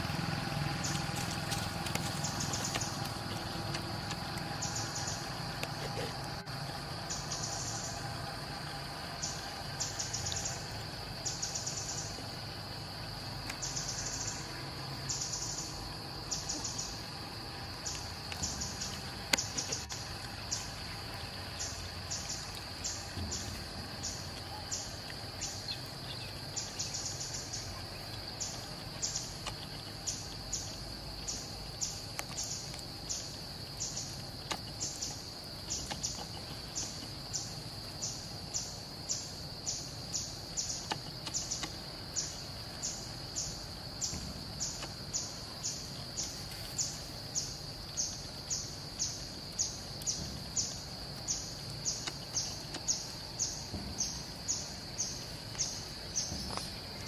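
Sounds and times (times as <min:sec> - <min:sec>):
high insect pulses: 0:00.0 - 0:57.0
insect chorus ringing: 0:00.0 - 0:57.0.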